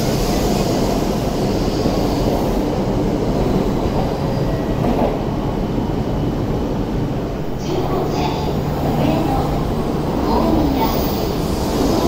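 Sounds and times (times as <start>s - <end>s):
high hiss of train: 0.0s - 5.4s, 7.2s - 12.0s
train passing rumble: 0.0s - 12.0s.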